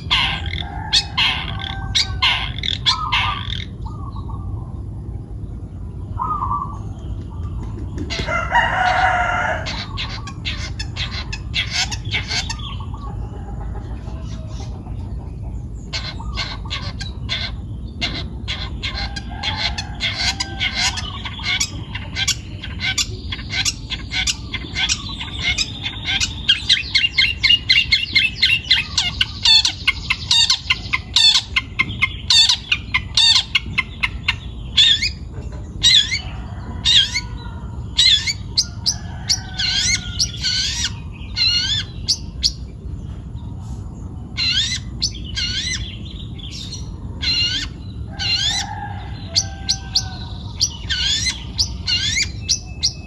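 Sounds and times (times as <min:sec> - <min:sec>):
shrike chattering song: 0:00.0 - 0:04.5, 0:06.1 - 0:13.1, 0:15.6 - 0:43.0, 0:44.2 - 0:53.0
loud sharp bird calls: 0:00.0 - 0:04.7, 0:05.9 - 0:53.0.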